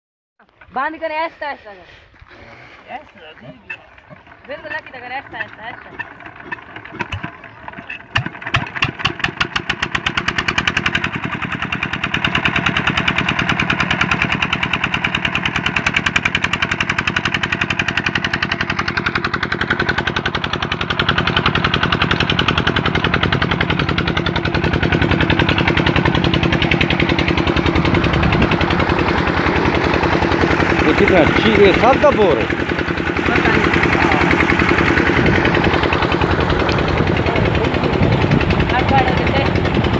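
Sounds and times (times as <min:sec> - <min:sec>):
diesel engine starting and running: 0:00.4 - 0:39.9
water gushing from pump: 0:03.5 - 0:39.9.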